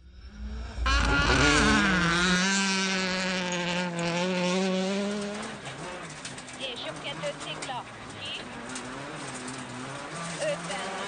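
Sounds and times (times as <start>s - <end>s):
rally car engine at high revs: 0.4s - 11.0s.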